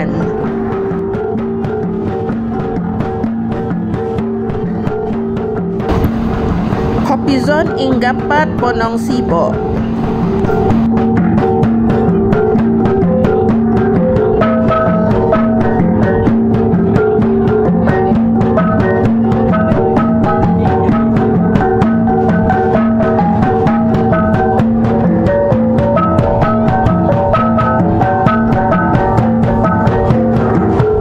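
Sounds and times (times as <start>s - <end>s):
gong ensemble playing rhythm: 0.0s - 31.0s.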